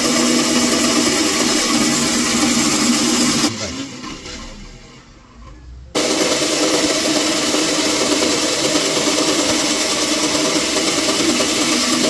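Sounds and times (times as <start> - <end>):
bandsaw cutting wood: 0.0 - 4.6, 6.0 - 12.0.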